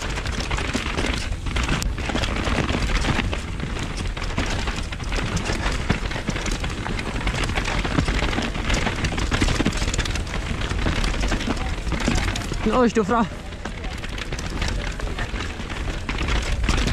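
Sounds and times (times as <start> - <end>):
bike clattering over rocks: 0.0 - 16.9.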